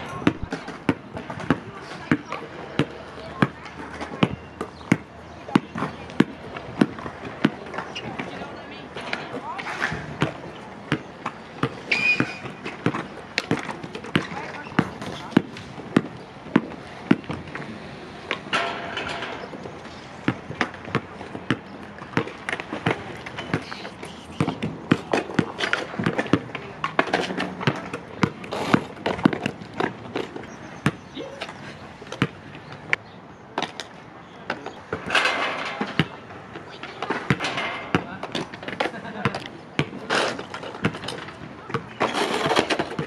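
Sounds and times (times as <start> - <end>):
basketball bouncing on asphalt: 0.0 - 23.8, 24.4 - 31.2, 32.0 - 33.0, 35.8 - 43.0.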